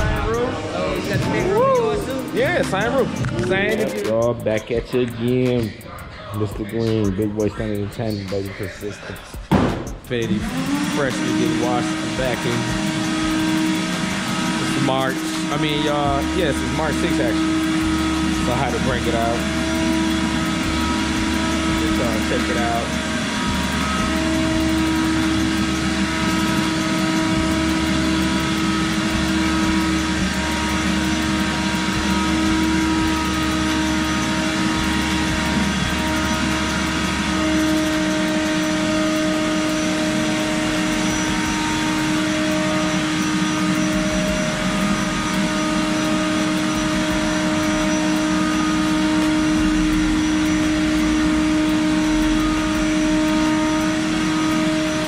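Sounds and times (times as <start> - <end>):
car wash motor whining: 0.0 - 55.0.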